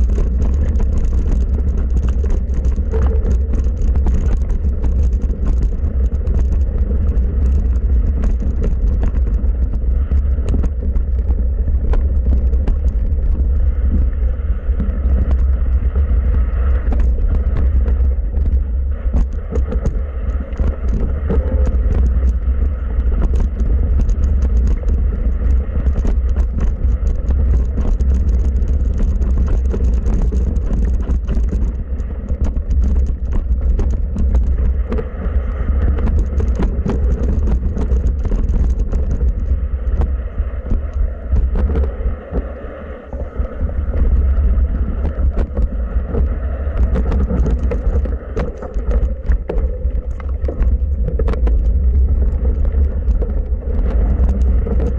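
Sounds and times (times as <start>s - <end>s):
bike clicking and rattling: 0.0s - 54.9s
wind and ground rumble on microphone: 0.0s - 54.9s.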